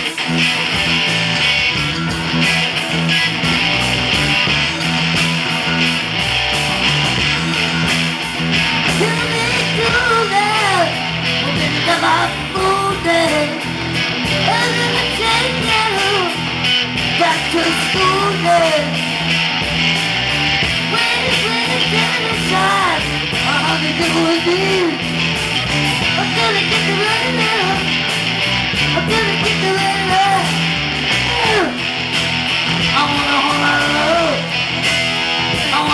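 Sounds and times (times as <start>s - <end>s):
rock band playing: 0.0s - 35.9s
wavering lead guitar melody: 0.0s - 35.9s.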